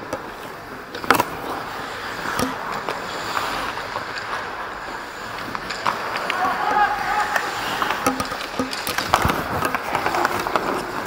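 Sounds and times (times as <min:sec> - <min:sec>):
hockey gear rustling: 0:00.0 - 0:11.0
skate blades scraping ice: 0:00.0 - 0:11.0.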